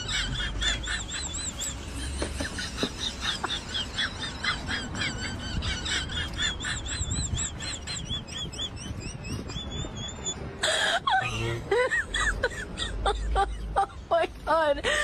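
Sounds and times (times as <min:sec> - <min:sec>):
birds chirping: 0:00.0 - 0:12.2.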